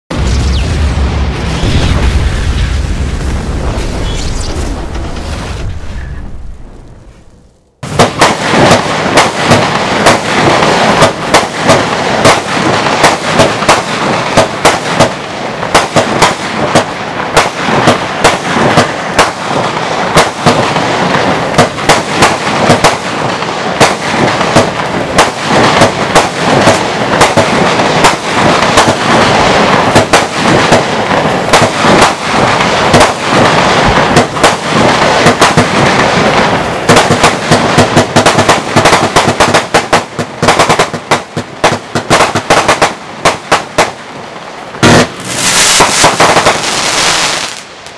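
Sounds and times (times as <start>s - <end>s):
firework battery firing: 0.1s - 5.1s, 7.8s - 47.9s.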